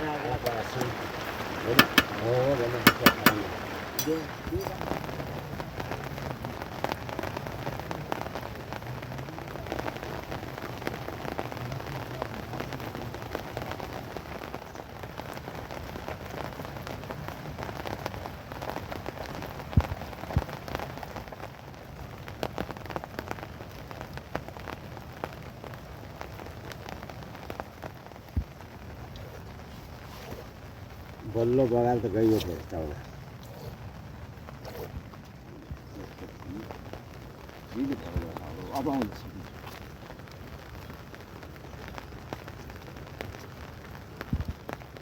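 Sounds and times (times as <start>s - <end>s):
raindrops ticking: 0.0s - 45.0s
steady rain: 0.0s - 45.0s.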